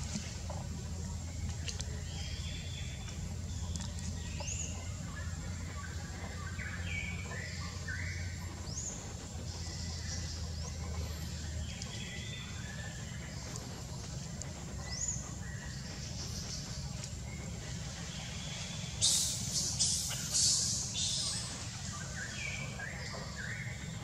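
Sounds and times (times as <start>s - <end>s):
low background hum: 0.0s - 24.0s
bird chirping calls: 1.2s - 24.0s.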